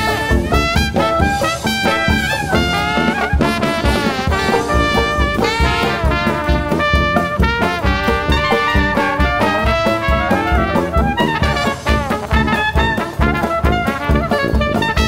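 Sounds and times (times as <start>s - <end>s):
brass swing jazz: 0.0s - 15.0s.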